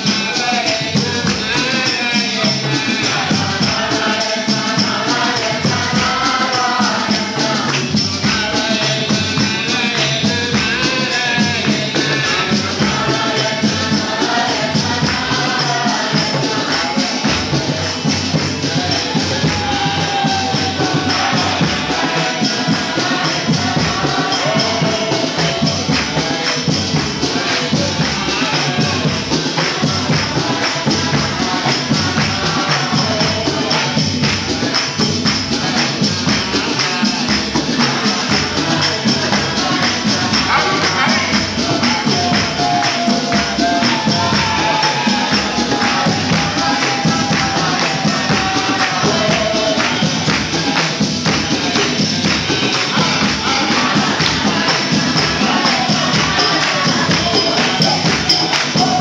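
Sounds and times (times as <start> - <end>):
jingling hand percussion: 0.0 - 59.0
voices singing a devotional chant: 0.0 - 59.0.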